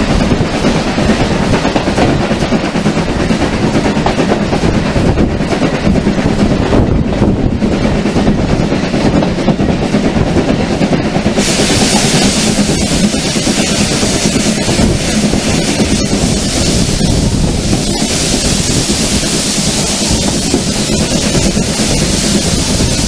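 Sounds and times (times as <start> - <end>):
train wheels rumbling on rails: 0.0 - 23.0
wind hiss: 0.0 - 23.0.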